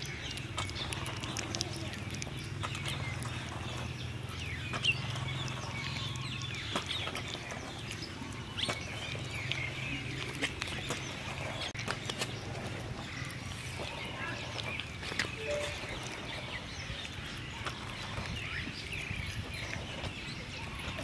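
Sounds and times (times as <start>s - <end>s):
puppy chewing and lapping: 0.0s - 21.0s.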